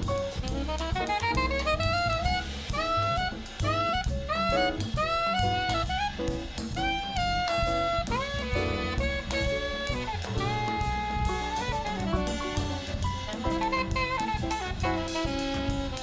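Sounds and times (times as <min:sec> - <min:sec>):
alto saxophone solo: 0:00.0 - 0:16.0
drum kit with cymbals: 0:00.0 - 0:16.0
piano accompaniment: 0:00.0 - 0:16.0
walking double bass: 0:00.0 - 0:16.0.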